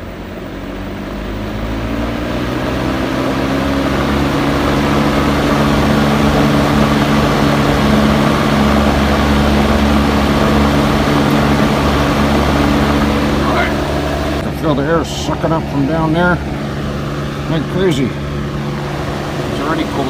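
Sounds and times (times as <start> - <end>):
vent fan motor humming: 0.0 - 20.0.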